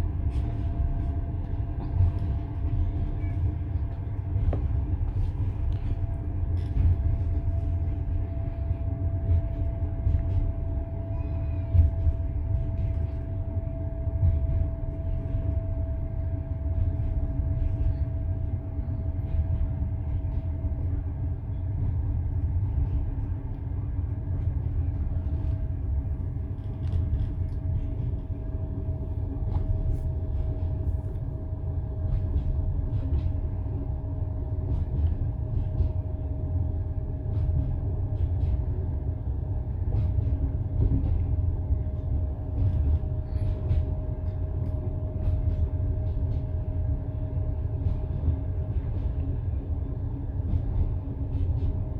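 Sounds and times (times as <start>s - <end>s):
train low rumble: 0.0s - 51.9s.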